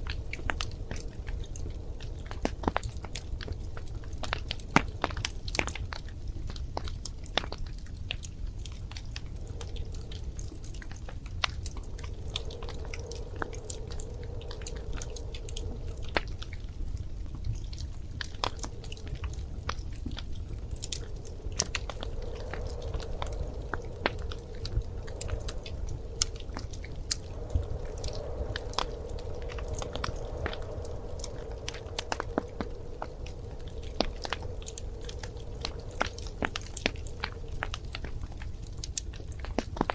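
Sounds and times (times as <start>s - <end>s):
low steady rumble: 0.0s - 39.9s
soft hum: 0.0s - 39.9s
wood fire crackling: 0.0s - 39.9s.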